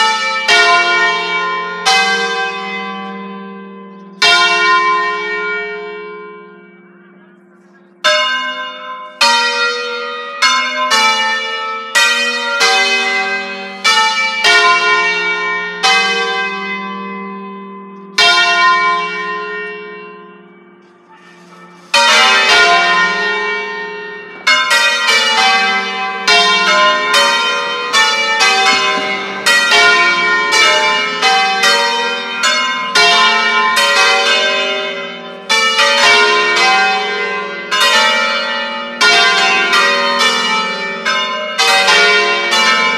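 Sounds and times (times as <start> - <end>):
church bells ringing a tune: 0.0 - 42.9.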